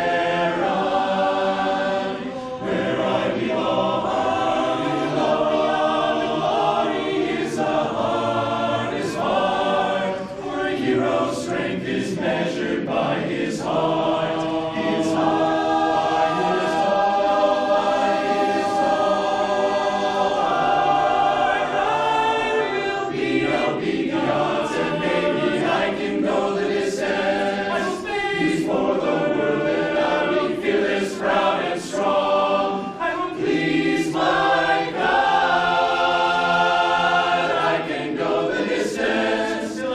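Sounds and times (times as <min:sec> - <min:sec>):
men's chorus singing a cappella: 0:00.0 - 0:39.9.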